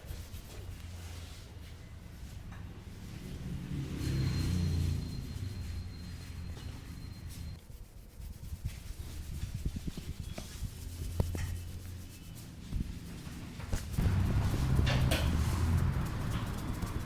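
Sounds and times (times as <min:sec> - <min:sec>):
hands rubbing scalp and hair: 0:00.0 - 0:02.3, 0:04.1 - 0:17.0.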